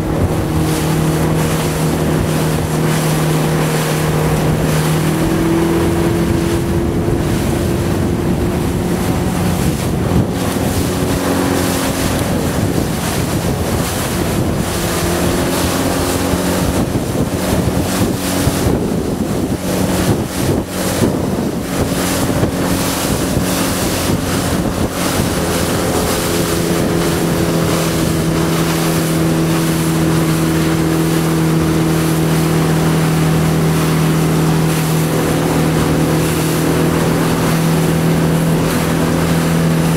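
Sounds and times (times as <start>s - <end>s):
motorboat engine running: 0.0s - 39.9s
water wash: 0.0s - 39.9s
wind buffeting microphone: 0.0s - 39.9s.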